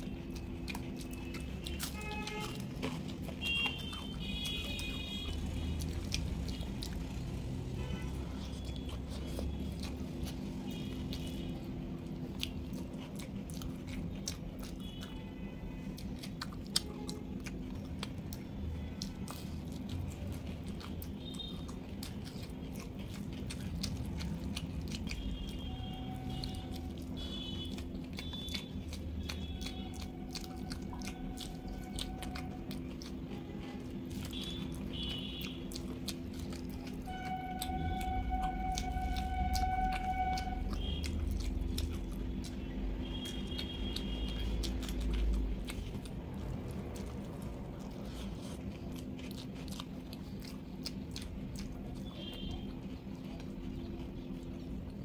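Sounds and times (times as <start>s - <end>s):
chewing and crunching food: 0.0s - 55.0s.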